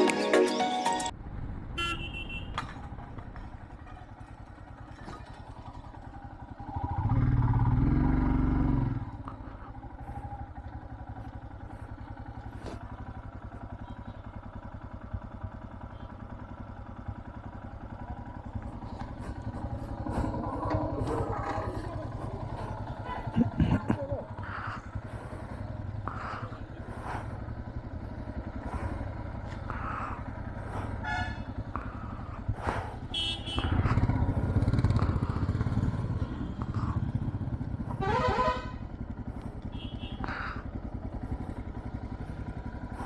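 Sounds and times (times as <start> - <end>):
road noise: 0.0 - 43.0
motorcycle engine running: 1.1 - 43.0.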